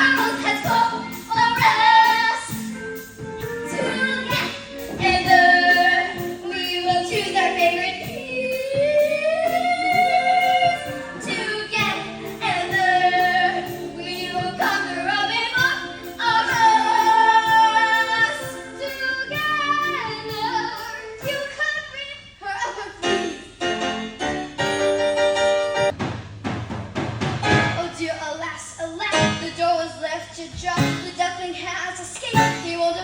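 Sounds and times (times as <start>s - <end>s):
instrumental backing: 0.0s - 22.3s, 23.0s - 28.3s, 28.9s - 33.0s.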